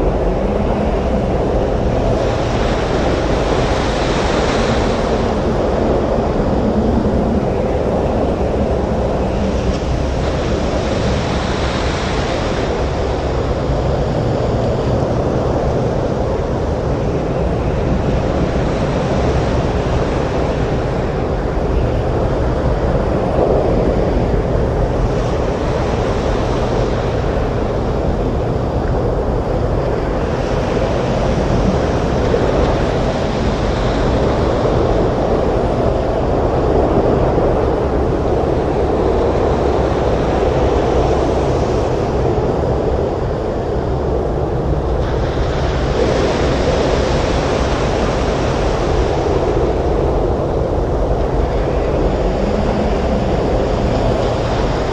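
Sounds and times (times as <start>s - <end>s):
stormy waves crashing: 0.0s - 54.9s
wind: 0.0s - 54.9s.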